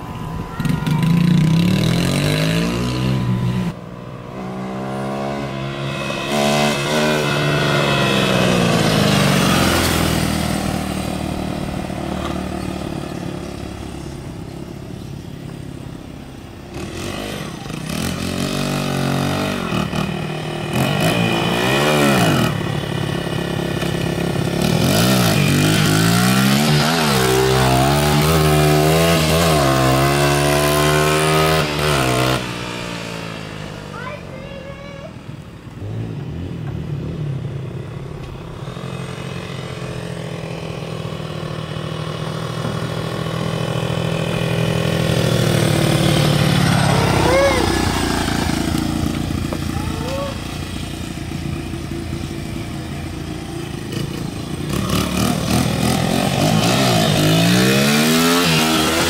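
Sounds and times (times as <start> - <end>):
dirt bike engine revving: 0.5 - 14.2, 16.7 - 34.1, 35.8 - 59.0.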